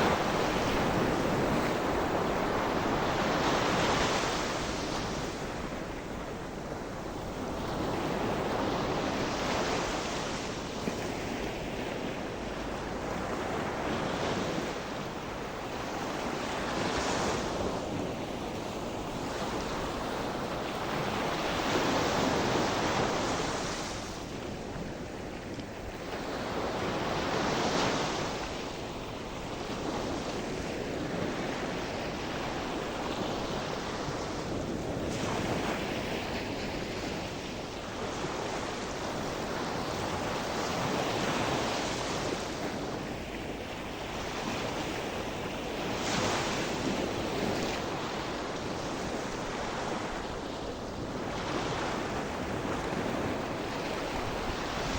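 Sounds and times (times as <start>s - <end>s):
sea waves breaking on shore: 0.0s - 54.9s
wind on microphone: 0.0s - 54.9s.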